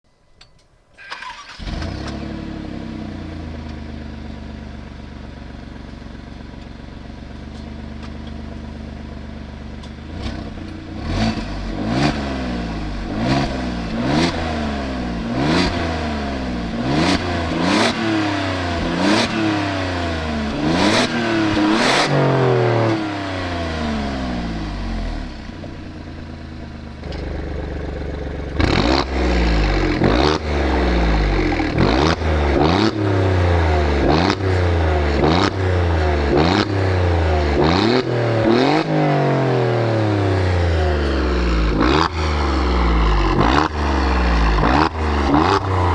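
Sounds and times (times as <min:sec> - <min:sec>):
exhaust cracks: 0:01.0 - 0:38.9, 0:40.0 - 0:45.9
car engine starting: 0:01.0 - 0:45.9
car engine revving: 0:01.1 - 0:45.9
car engine idling: 0:01.2 - 0:36.3, 0:40.0 - 0:45.9.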